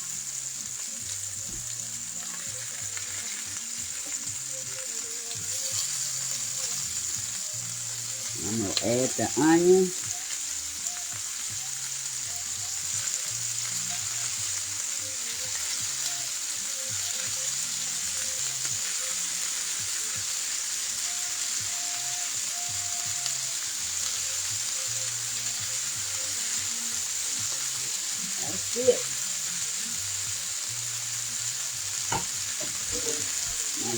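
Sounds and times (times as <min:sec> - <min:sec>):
meat and onion sizzling in skillet: 0:00.0 - 0:33.9.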